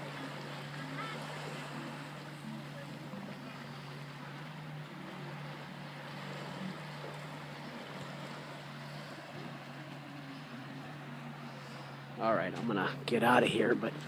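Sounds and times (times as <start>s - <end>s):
low steady hum: 0.0s - 14.0s
waves washing: 0.0s - 14.0s
wind: 0.0s - 14.0s.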